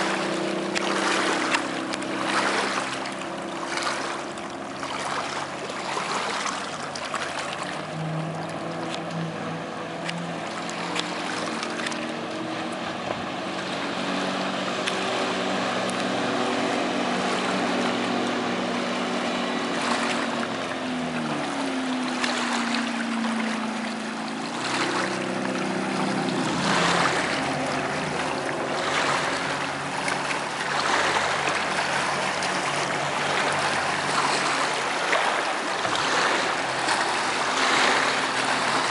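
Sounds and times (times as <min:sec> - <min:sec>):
boat engine droning: 0:00.0 - 0:38.9
water rushing: 0:00.0 - 0:38.9
wind: 0:00.0 - 0:38.9.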